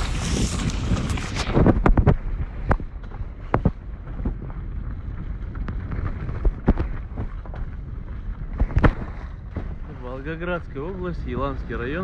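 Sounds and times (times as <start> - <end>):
car driving on rough road: 0.0 - 11.6
wind on microphone: 0.0 - 12.0.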